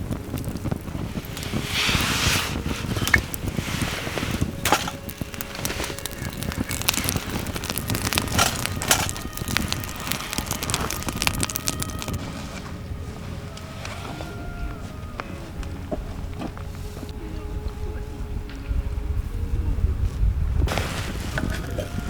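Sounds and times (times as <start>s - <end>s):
campfire crackling and popping: 0.0s - 19.1s, 20.4s - 22.0s
wind rumble on microphone: 0.0s - 22.0s.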